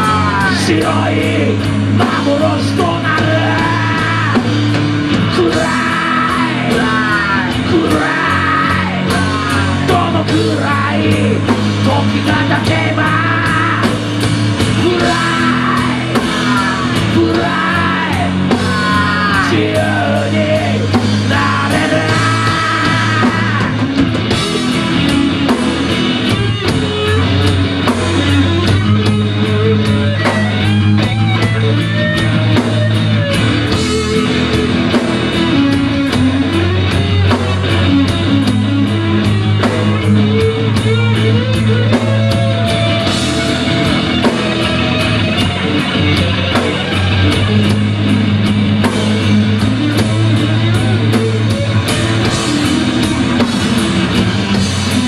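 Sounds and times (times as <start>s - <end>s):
rock band playing instrumental: 0.0s - 55.0s
sliding bending guitar melody: 4.0s - 55.0s.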